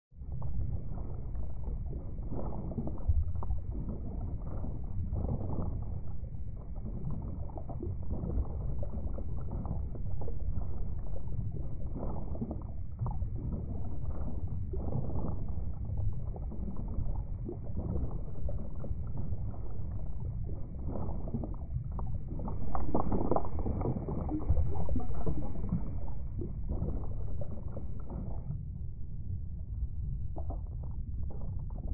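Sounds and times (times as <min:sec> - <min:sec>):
muffled underwater rumble: 0:00.1 - 0:31.9.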